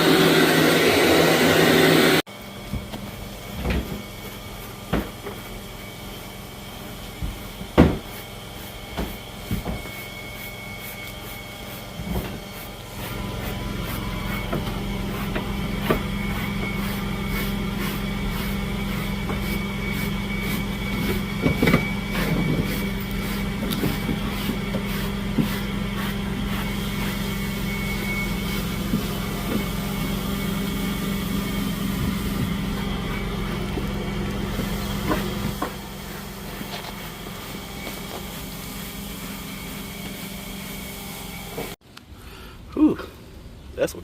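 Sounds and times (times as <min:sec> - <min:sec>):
vacuum cleaner running: 0:00.0 - 0:41.8.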